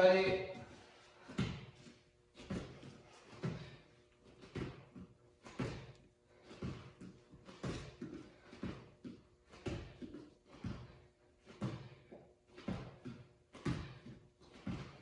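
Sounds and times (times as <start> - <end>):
feet landing on floor: 0.4 - 15.0.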